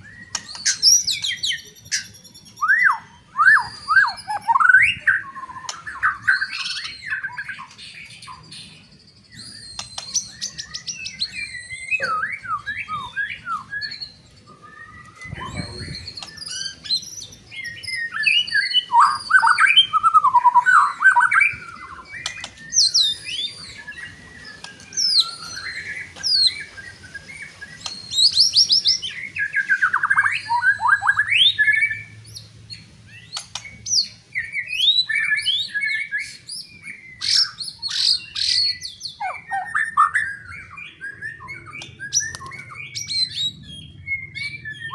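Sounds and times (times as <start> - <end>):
bird singing whistles and trills: 0.0 - 44.9.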